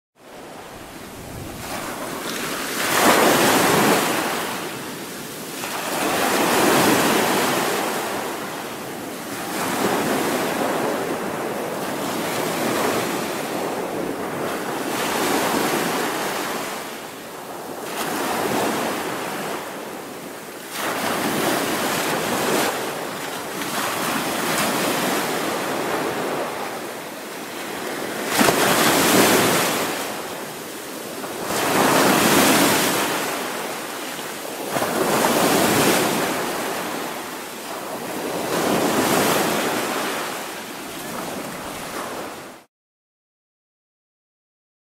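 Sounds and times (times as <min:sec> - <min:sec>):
sea waves breaking on shore: 0:00.2 - 0:42.7.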